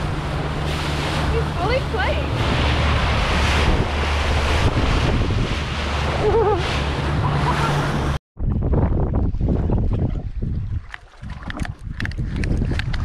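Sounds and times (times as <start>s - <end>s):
waves and water: 0.0s - 13.0s
wind buffeting microphone: 0.0s - 13.0s.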